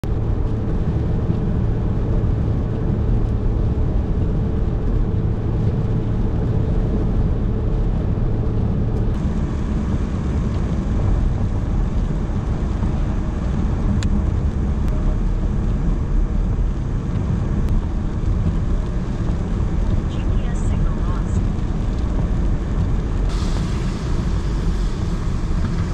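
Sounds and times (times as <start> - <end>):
car road noise on wet road: 0.0 - 25.9
steady low hum: 0.0 - 25.9.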